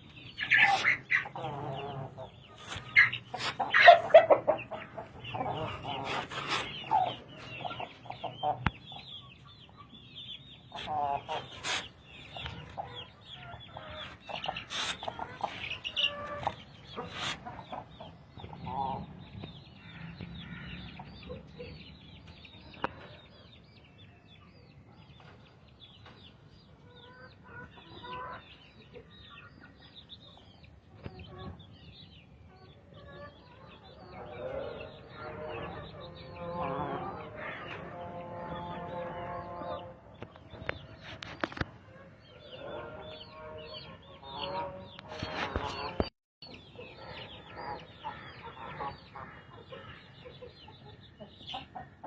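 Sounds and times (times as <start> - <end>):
hens clucking: 0.0 - 19.4, 26.8 - 52.0.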